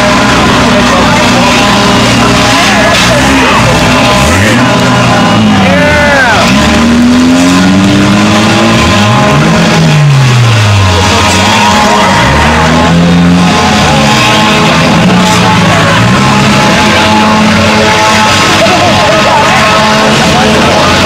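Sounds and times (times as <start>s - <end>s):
car engines revving: 0.0s - 21.0s
rock music: 0.0s - 21.0s.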